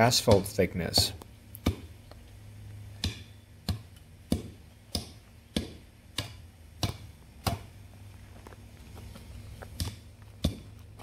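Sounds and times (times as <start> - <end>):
hand tamper thudding on gravel: 0.0 - 1.9, 3.0 - 7.8, 8.4 - 11.0
faint low hum: 0.0 - 11.0.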